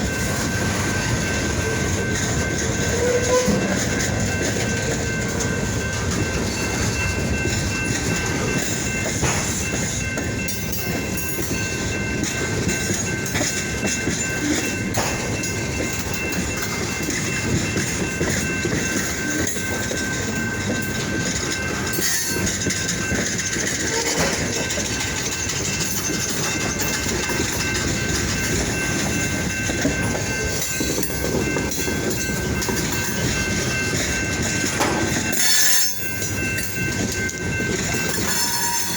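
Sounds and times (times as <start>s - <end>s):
freight train rumbling on track: 0.0s - 38.9s
train wheels knocking: 0.0s - 38.9s.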